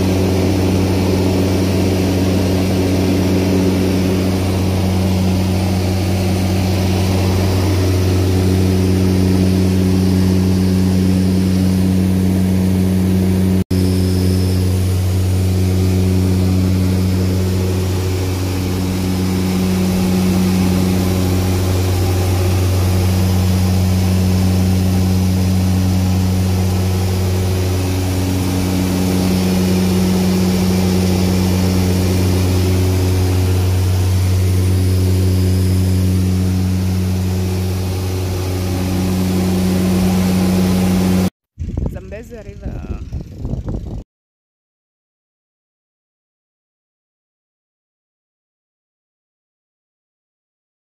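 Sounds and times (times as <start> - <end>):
propeller aircraft engine droning: 0.0 - 44.0.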